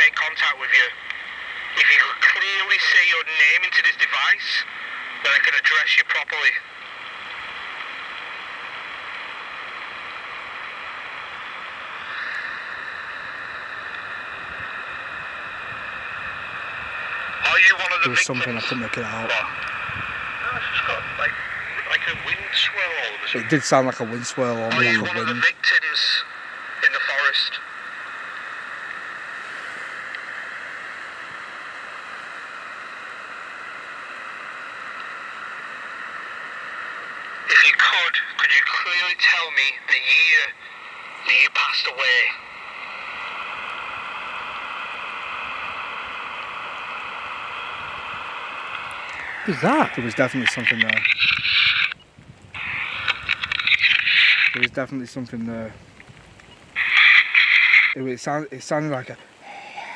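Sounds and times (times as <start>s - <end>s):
faint steady whine: 0.0s - 59.9s
steady speaker hiss: 0.0s - 59.9s.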